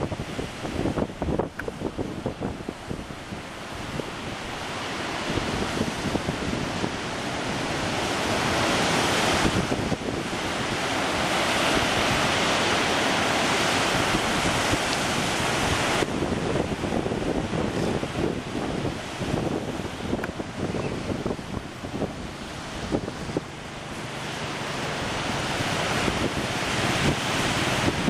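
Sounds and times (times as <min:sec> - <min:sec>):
sea surf washing onto beach: 0:00.0 - 0:28.0
wind buffeting microphone: 0:00.0 - 0:28.0.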